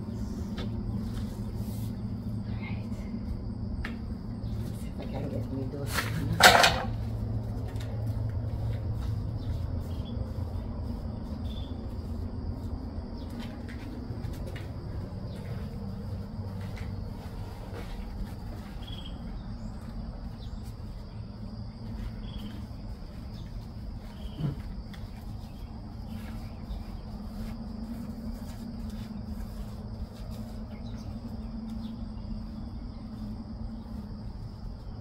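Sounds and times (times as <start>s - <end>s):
insects droning: 0.0s - 35.0s
low background rumble: 0.0s - 35.0s.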